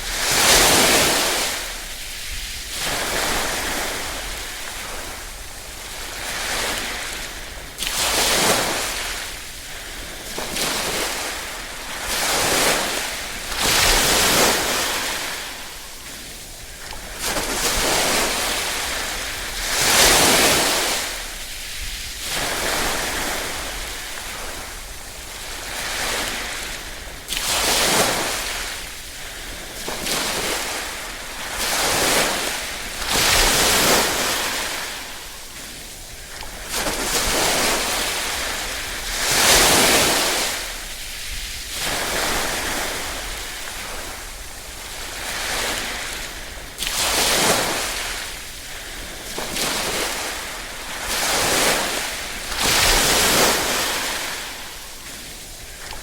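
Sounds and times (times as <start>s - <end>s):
small waves lapping on shore: 0.0s - 56.0s.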